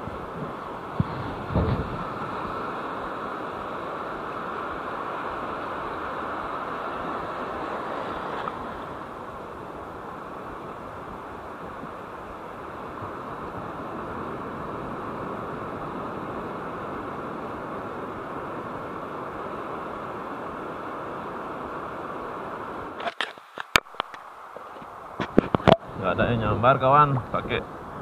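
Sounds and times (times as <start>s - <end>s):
ocean surf washing: 0.0s - 28.0s.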